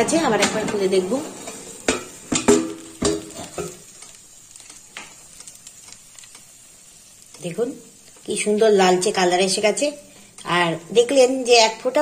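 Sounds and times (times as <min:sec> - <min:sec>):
faint sizzle of food: 0:00.0 - 0:12.0.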